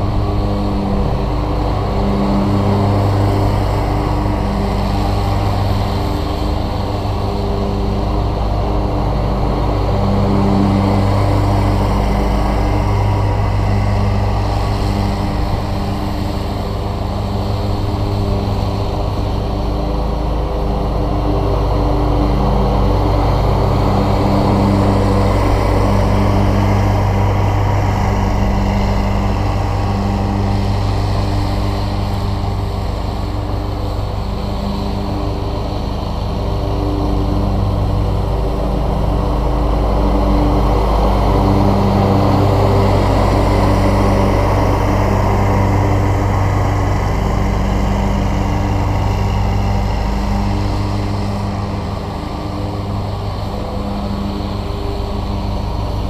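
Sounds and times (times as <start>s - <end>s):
riding mower engine drone: 0.0s - 56.0s.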